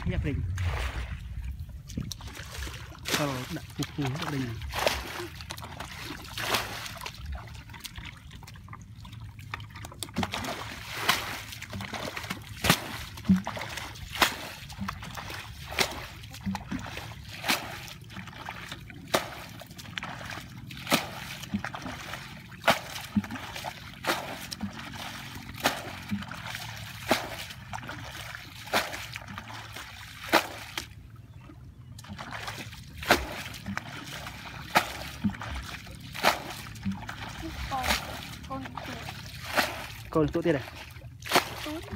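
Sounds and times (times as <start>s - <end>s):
bucket scooping water: 0.0s - 41.9s
water trickling and sloshing: 0.0s - 41.9s
splash of thrown water: 1.9s - 7.2s, 10.0s - 30.9s, 32.2s - 40.3s, 41.2s - 41.9s.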